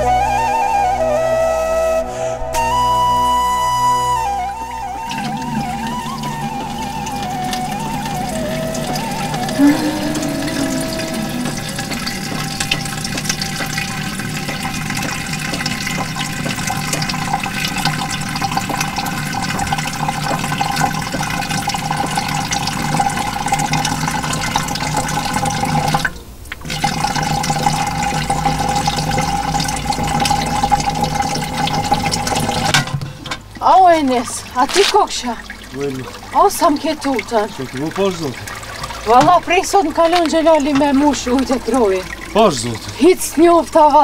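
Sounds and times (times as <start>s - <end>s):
water filling a metal jug: 4.8s - 44.0s.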